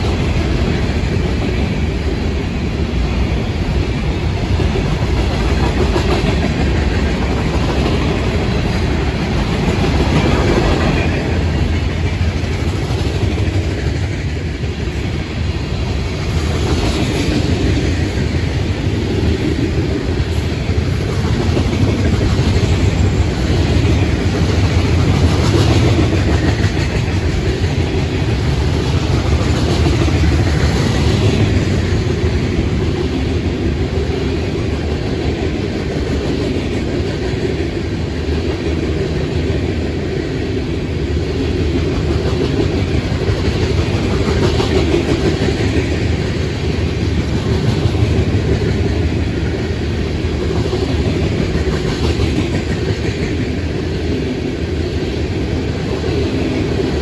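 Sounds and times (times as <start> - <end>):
freight cars rumbling on rail: 0.0 - 57.0.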